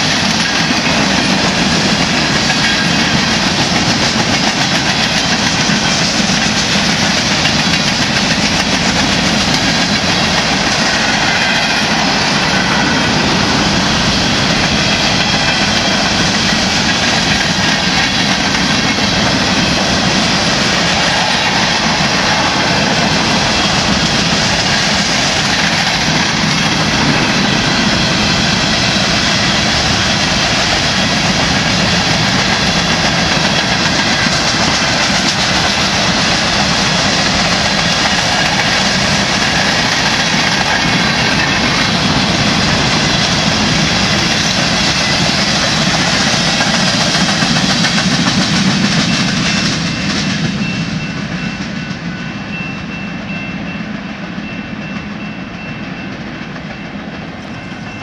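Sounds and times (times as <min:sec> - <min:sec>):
crossing signal ringing: 0:00.0 - 0:58.0
freight train rolling past: 0:00.0 - 0:58.0.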